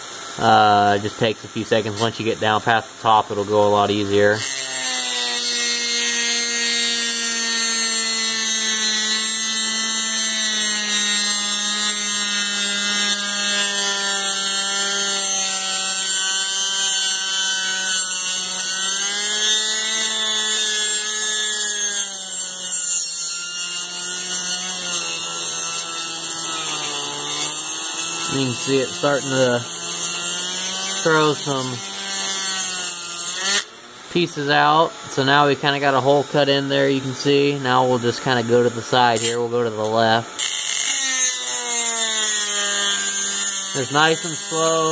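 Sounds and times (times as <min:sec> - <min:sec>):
rotary tool grinding metal: 0:00.1 - 0:44.9.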